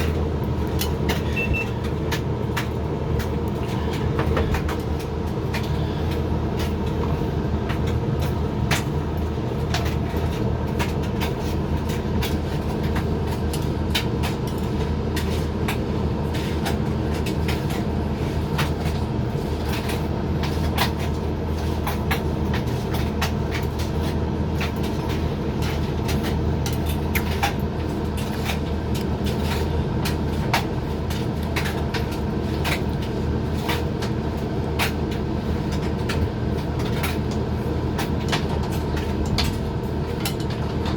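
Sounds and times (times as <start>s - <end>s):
dryer motor and fan hum: 0.0s - 40.9s
load tumbling clicks and taps: 0.0s - 40.9s.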